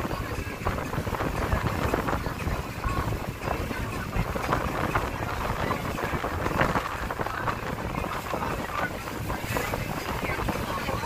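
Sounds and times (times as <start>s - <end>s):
low rumble of boat: 0.0s - 11.0s
water rushing along hull: 0.0s - 11.0s
wind buffeting microphone: 0.0s - 11.0s.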